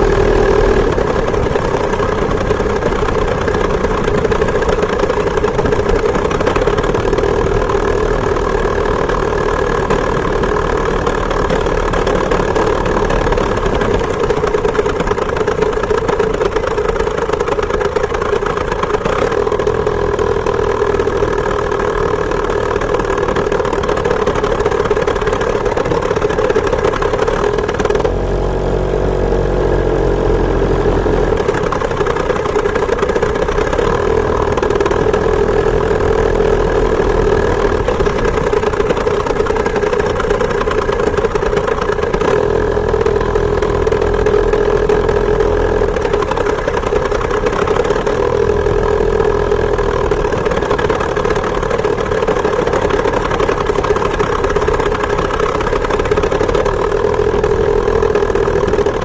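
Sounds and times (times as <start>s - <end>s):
two-stroke moped engine revving: 0.0s - 59.0s.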